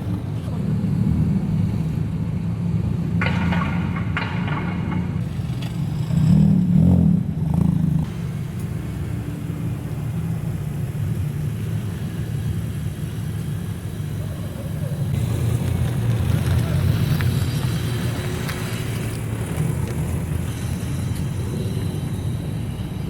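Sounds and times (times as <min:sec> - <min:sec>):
car engine revving: 0:00.0 - 0:23.0
car exhaust rumbling: 0:00.0 - 0:23.0.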